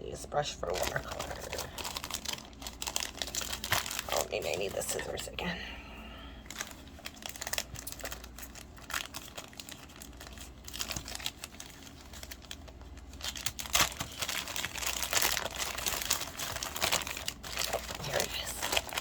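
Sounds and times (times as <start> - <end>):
packaging crinkling and tearing: 0.6 - 5.2, 6.4 - 19.0.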